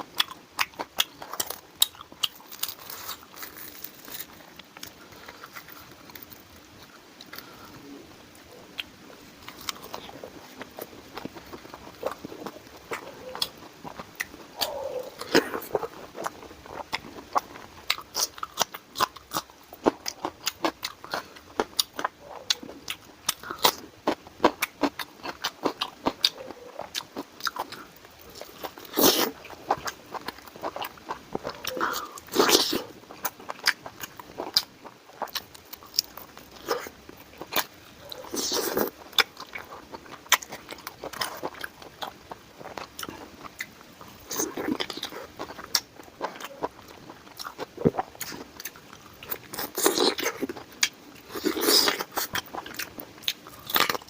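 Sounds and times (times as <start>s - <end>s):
person chewing: 0.0s - 8.0s, 8.6s - 54.0s.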